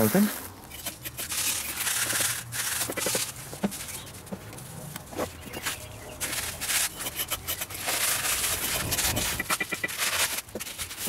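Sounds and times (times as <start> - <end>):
brick scraping on mortar: 0.7 - 4.4, 5.2 - 11.0.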